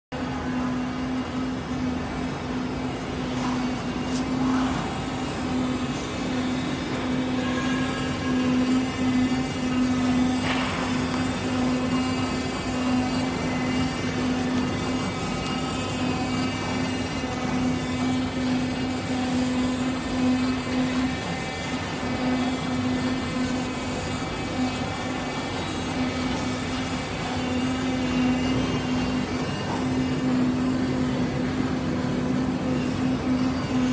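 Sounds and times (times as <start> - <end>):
machine drone: 0.1 - 33.9.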